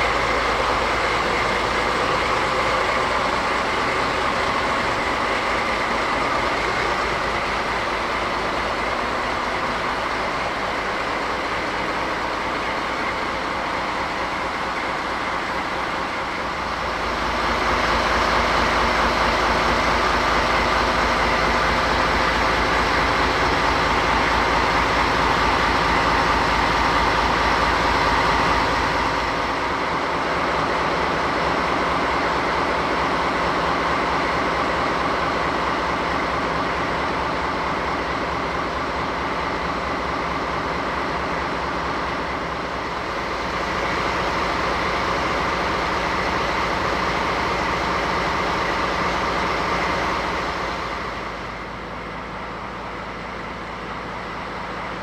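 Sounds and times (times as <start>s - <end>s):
diesel locomotive engine throbbing: 0.0s - 55.0s.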